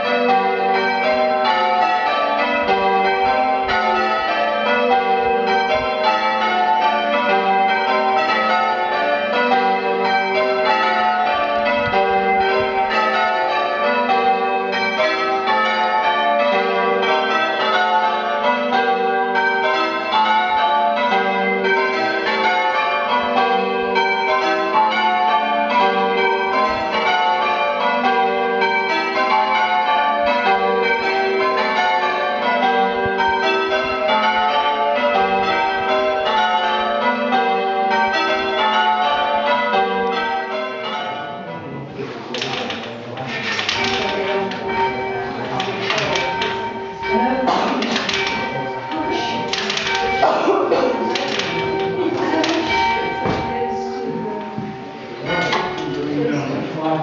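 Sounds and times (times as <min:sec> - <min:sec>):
church bells ringing changes: 0:00.0 - 0:57.0.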